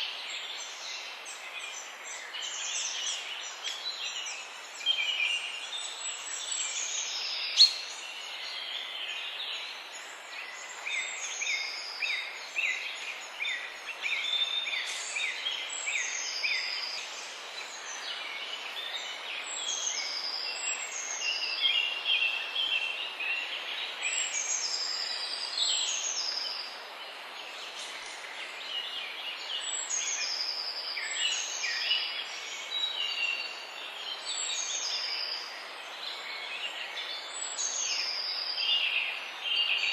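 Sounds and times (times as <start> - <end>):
steady background hiss: 0.0 - 39.9
wild birds chirping and whistling: 0.0 - 39.9.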